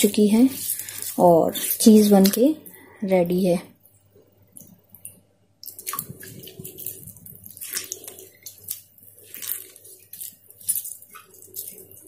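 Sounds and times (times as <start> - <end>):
water splashing and sloshing: 0.0 - 2.8, 3.8 - 12.0.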